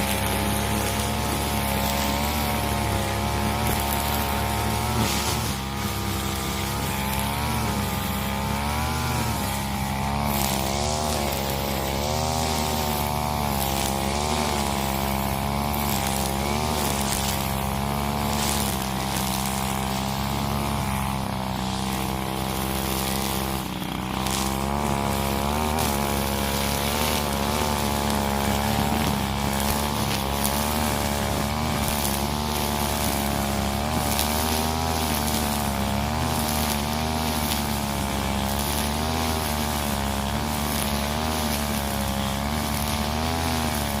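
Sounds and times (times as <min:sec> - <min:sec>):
brush cutter engine running: 0:00.0 - 0:44.0.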